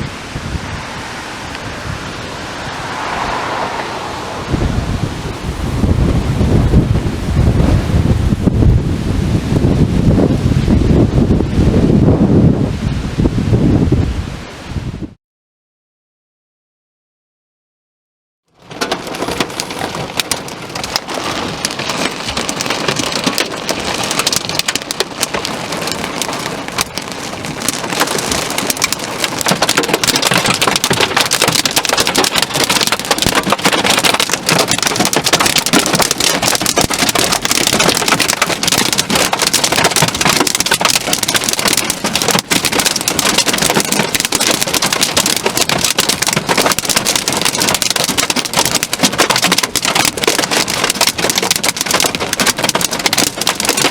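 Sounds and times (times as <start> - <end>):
heavy rain pouring: 0.0 - 14.7, 18.6 - 53.9.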